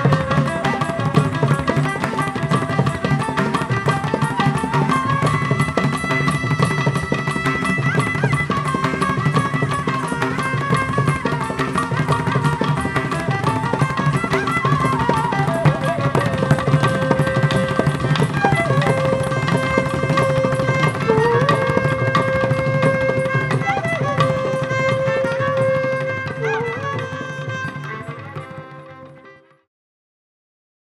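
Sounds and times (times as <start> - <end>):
hand drum playing: 0.0 - 27.0.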